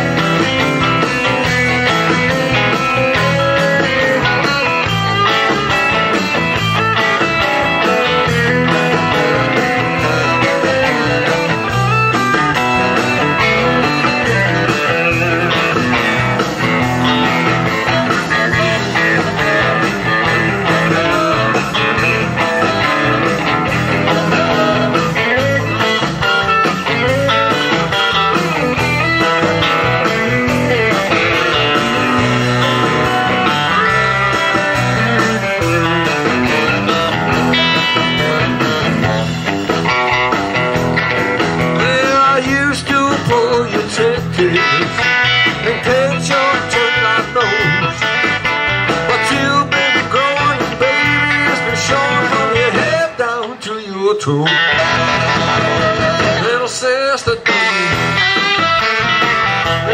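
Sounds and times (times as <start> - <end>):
electric guitar: 0.0 - 59.9
rock band playing: 0.0 - 59.9.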